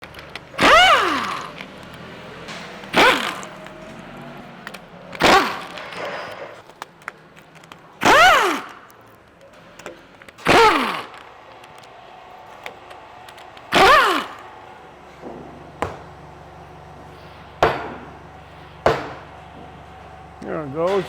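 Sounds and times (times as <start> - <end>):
air impact wrench bursts: 0.1 - 6.8, 7.6 - 15.2, 16.0 - 21.0.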